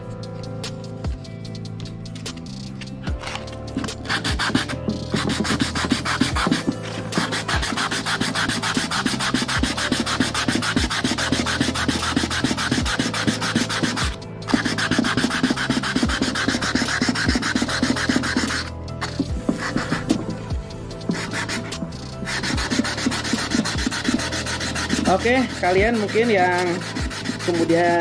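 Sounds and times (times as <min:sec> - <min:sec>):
background music with steady beat: 0:00.0 - 0:28.0
sandpaper scrubbing metal: 0:03.2 - 0:28.0.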